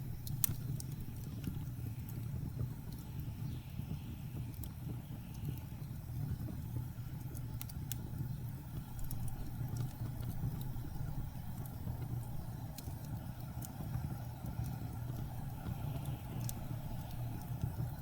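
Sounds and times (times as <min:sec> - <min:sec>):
fireplace wood crackling: 0:00.0 - 0:18.0.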